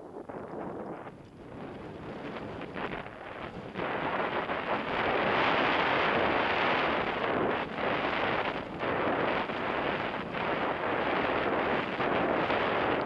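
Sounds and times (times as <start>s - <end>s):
wind buffeting microphone: 0.0s - 13.0s
bike rattling over bumps: 1.1s - 12.9s.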